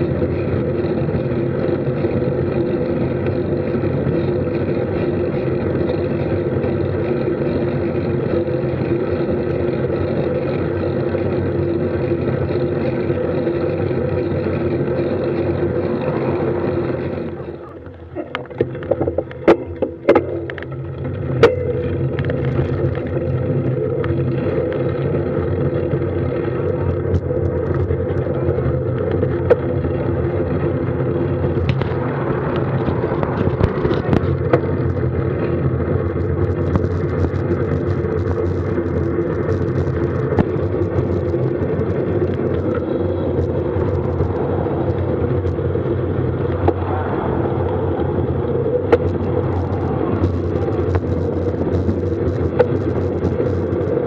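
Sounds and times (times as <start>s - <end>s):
tyre and wind noise: 0.0s - 54.0s.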